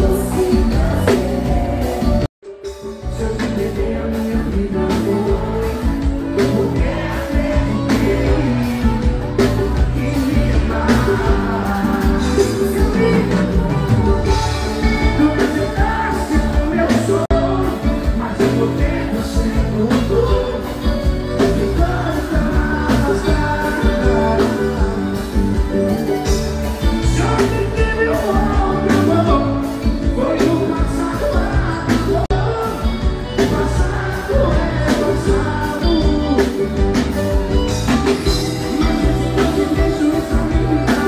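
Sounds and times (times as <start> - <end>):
man singing into microphone: 0.0 - 37.1, 38.2 - 41.0
live band over pa: 0.0 - 41.0
steady drum beat: 3.1 - 41.0.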